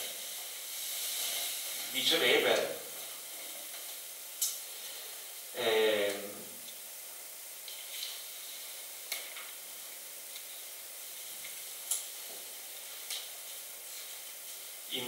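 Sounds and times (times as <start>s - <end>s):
room noise hiss: 0.0s - 15.0s.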